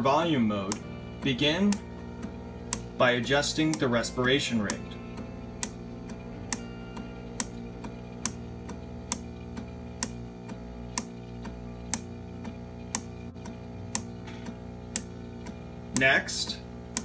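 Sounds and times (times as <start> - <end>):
soft background music: 0.0 - 16.6
ventilator valve clicking: 0.0 - 17.0.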